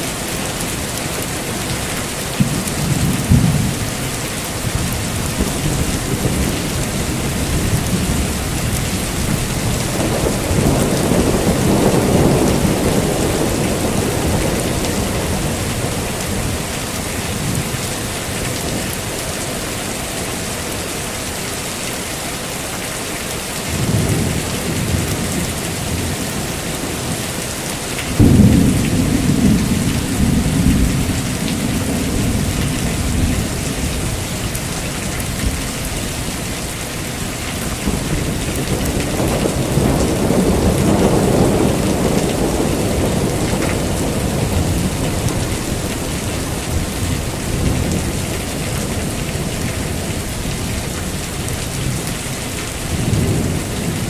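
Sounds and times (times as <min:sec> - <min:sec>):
rolling thunder: 0:00.0 - 0:18.9, 0:28.1 - 0:36.3, 0:37.3 - 0:54.0
heavy rain: 0:00.0 - 0:54.0.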